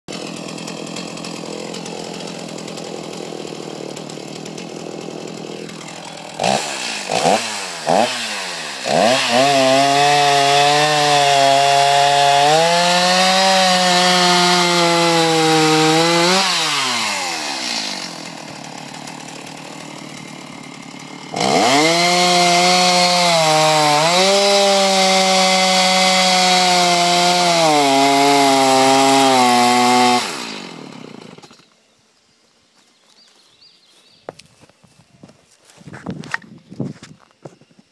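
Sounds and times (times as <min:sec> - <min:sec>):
chainsaw cutting log: 0:00.1 - 0:31.7
chainsaw engine revving: 0:00.1 - 0:31.7.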